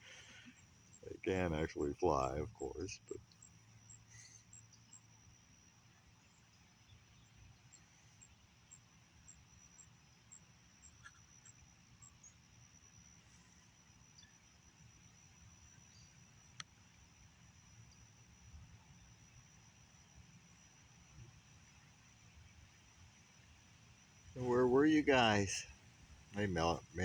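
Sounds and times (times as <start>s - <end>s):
insect chirps: 0.0s - 27.0s
insects droning: 0.0s - 27.0s.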